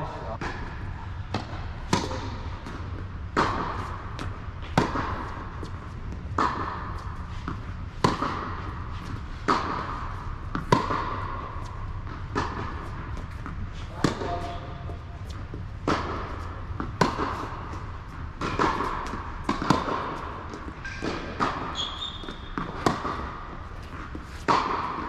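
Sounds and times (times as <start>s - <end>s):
ball bouncing on hard court: 0.4s - 25.0s
tennis ball struck by rackets: 0.4s - 25.0s.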